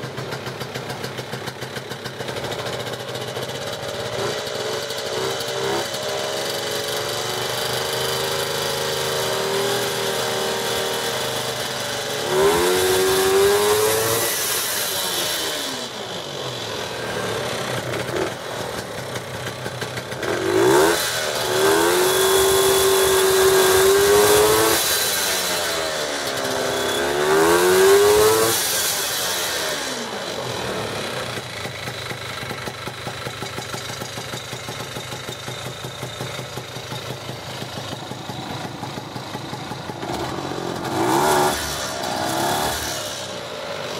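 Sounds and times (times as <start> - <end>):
snowmobile engine idling and revving: 0.0 - 43.9.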